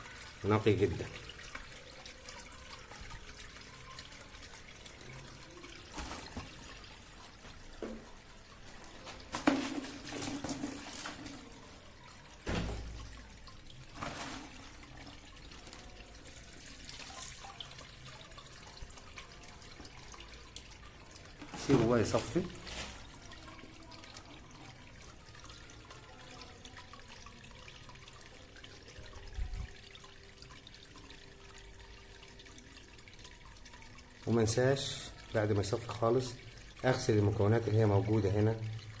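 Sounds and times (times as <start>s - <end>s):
liquid trickling and dripping: 0.0s - 39.0s.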